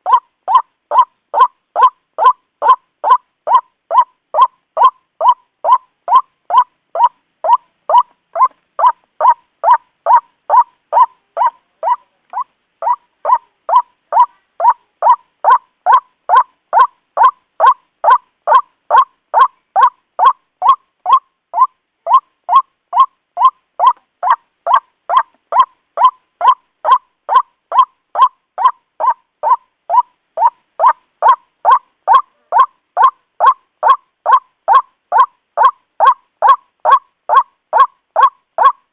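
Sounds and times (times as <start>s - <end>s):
waterhen call: 0.0s - 38.8s.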